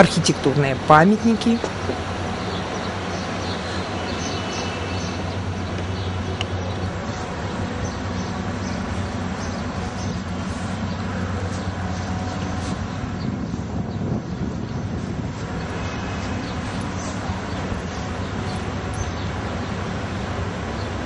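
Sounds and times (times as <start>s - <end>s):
low outdoor rumble and hum: 0.0s - 21.0s.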